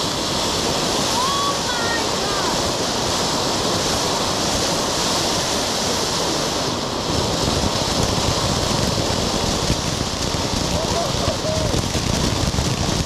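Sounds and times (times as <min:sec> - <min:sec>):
firework fountain rushing hiss: 0:00.0 - 0:13.0.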